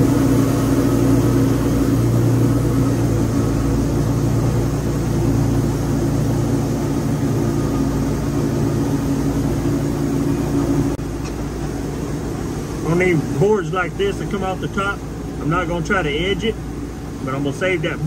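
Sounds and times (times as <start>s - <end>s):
sawmill engine running: 0.0s - 18.0s.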